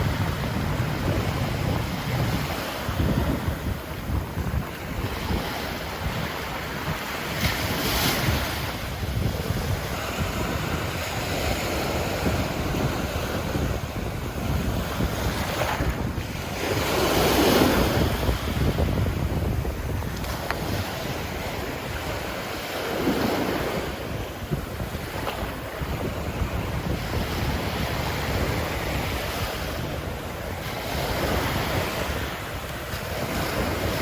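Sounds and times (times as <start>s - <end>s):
waves breaking on beach: 0.0s - 34.0s
wind buffeting microphone: 0.0s - 34.0s.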